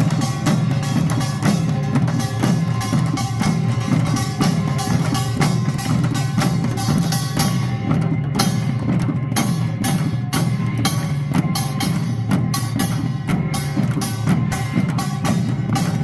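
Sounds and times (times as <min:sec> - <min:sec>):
drums playing fast rhythm: 0:00.0 - 0:16.0
small gongs clanging: 0:00.0 - 0:16.0.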